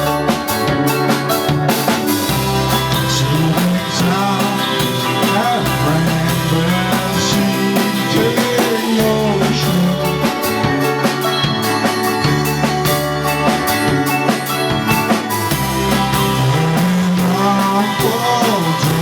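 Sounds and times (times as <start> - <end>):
bass notes: 0.0 - 19.0
drum kit: 0.0 - 19.0.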